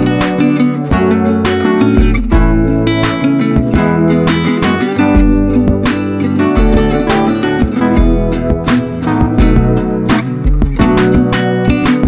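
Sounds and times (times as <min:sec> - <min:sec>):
bass line: 0:00.0 - 0:12.0
steady beat: 0:00.0 - 0:12.0
strummed acoustic guitar: 0:00.0 - 0:12.0.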